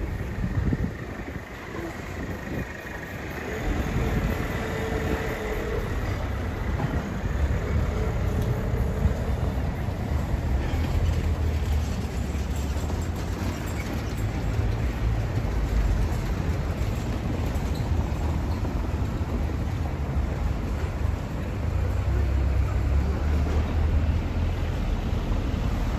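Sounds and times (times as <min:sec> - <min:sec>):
vehicle rumble: 0:00.0 - 0:25.9.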